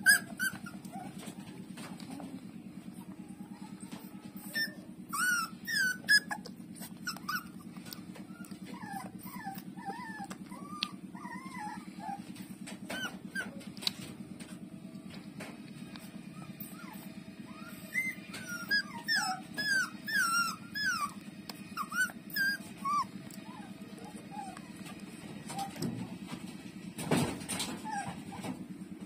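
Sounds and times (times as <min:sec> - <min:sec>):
puppies whimpering and squeaking: 0:00.0 - 0:29.0.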